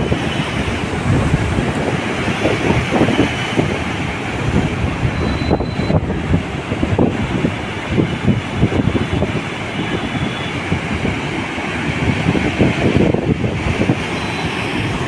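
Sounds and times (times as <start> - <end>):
rough surf breaking: 0.0 - 15.0
wind gusting on microphone: 0.0 - 15.0.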